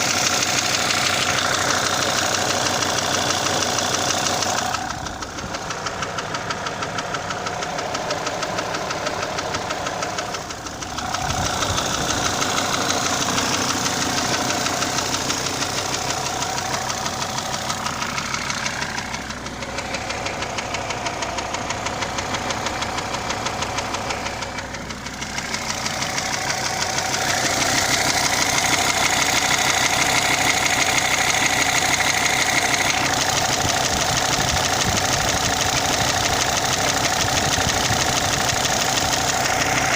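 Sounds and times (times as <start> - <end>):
diesel engine running with knock: 0.0 - 39.9.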